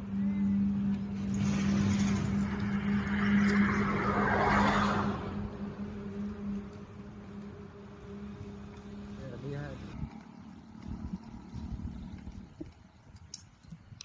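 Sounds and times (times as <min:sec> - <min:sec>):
machine humming: 0:00.0 - 0:12.3
rollers grinding cane: 0:00.0 - 0:13.6.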